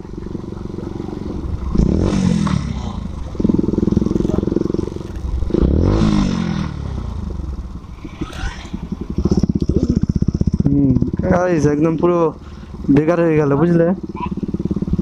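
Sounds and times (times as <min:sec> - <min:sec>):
motorcycle engine throttle blips: 0:00.0 - 0:15.0.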